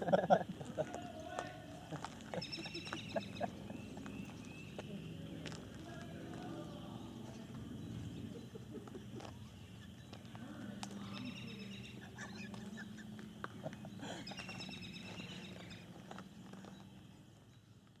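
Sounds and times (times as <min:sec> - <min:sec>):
birds chirping: 0:00.0 - 0:17.6.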